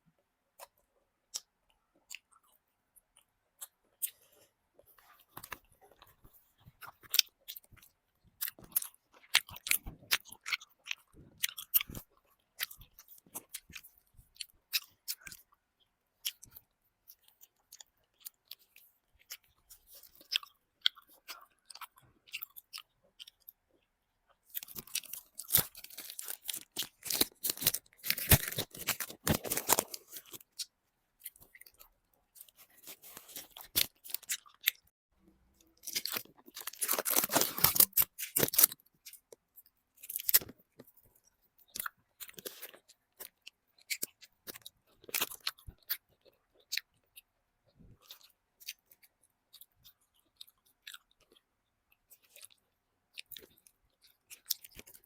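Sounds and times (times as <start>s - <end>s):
chewing and crunching chocolate: 0.2s - 55.0s.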